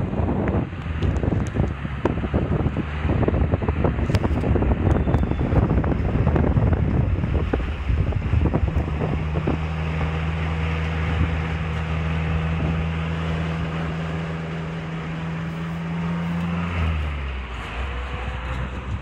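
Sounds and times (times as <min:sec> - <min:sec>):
car engine droning: 0:00.0 - 0:19.0
tyre and wind noise: 0:00.0 - 0:19.0.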